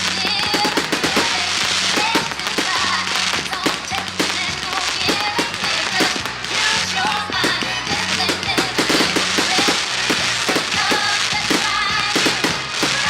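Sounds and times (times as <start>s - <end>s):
fireworks cracking and banging: 0.0s - 13.0s
loud music with bass line: 0.0s - 13.0s.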